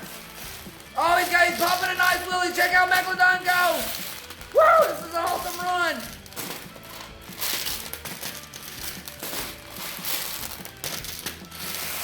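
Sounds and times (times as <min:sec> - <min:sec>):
background music: 0:00.0 - 0:12.0
hard candies clicking and rattling: 0:00.0 - 0:12.0.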